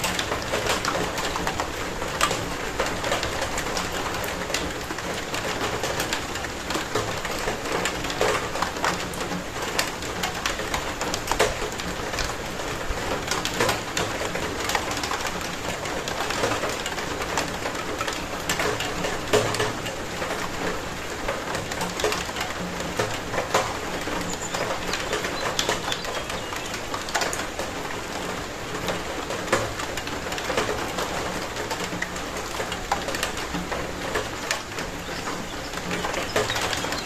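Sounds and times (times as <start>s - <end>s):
rain pattering: 0.0s - 37.0s.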